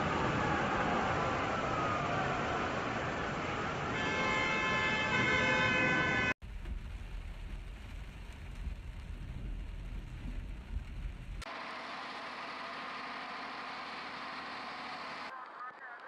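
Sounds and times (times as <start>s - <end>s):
heavy rain: 0.0s - 15.6s.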